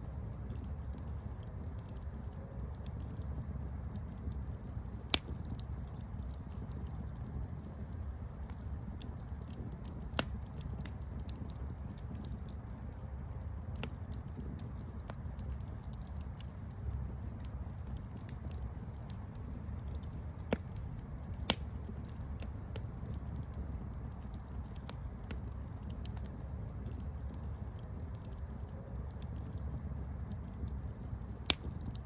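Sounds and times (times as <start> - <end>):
burning wood crackling and popping: 0.0 - 32.0
campfire flames rumbling: 0.0 - 32.0.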